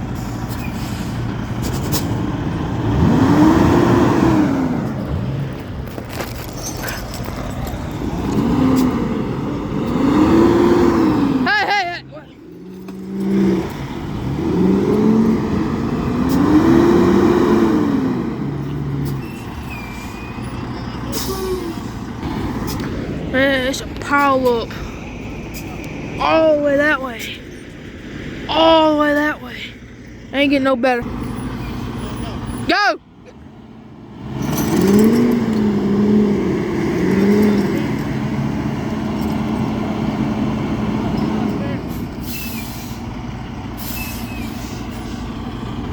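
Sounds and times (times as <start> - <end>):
tyre and road noise: 0.0 - 45.9
car engine revving: 1.0 - 45.9.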